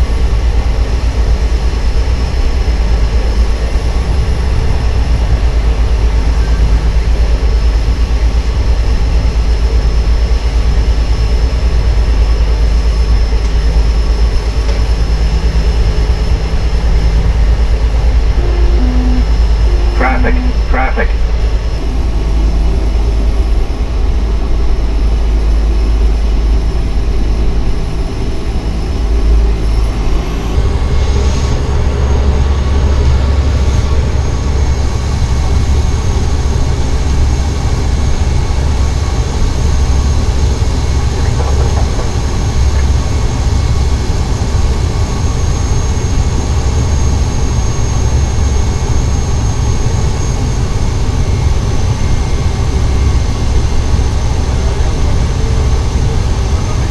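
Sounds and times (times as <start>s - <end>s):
high engine whine: 0.0s - 56.9s
turboprop engine running: 0.0s - 56.9s.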